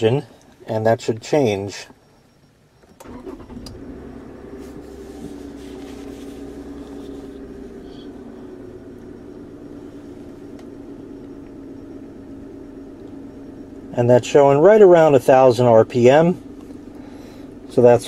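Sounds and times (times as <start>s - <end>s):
car engine idling: 1.7s - 18.0s.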